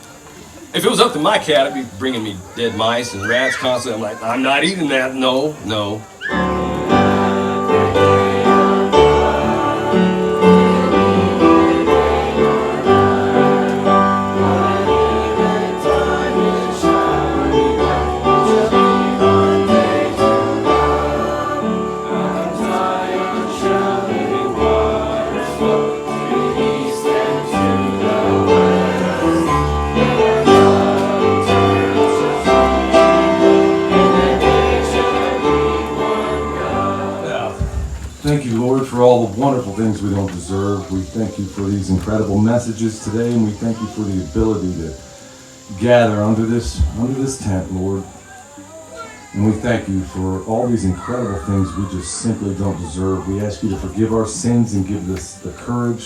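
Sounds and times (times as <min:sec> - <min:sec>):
gospel song with voices singing: 0:03.1 - 0:56.0.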